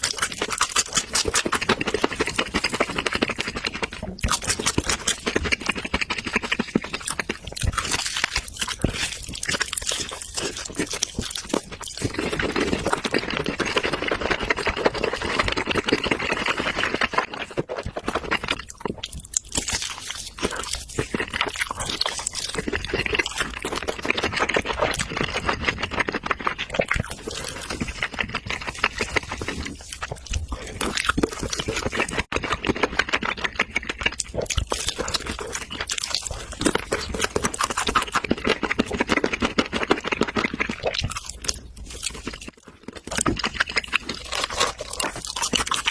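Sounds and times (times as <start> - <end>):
chewing meat close up: 0.0 - 45.9.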